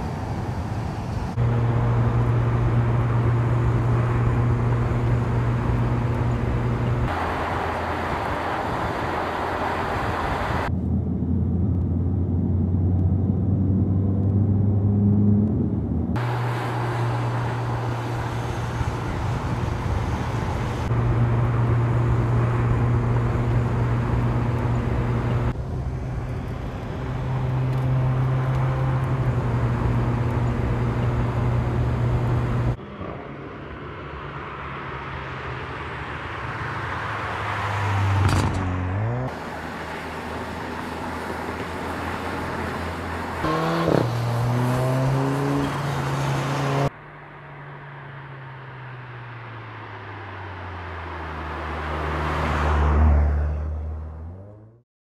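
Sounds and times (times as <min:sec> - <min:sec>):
car engine and exhaust revving: 0:00.0 - 0:54.8.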